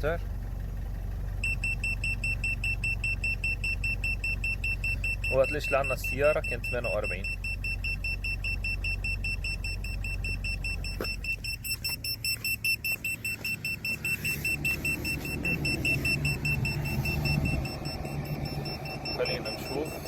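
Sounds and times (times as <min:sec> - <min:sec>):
car engine idling: 0:00.0 - 0:20.0
alarm beeping rapidly: 0:01.4 - 0:20.0.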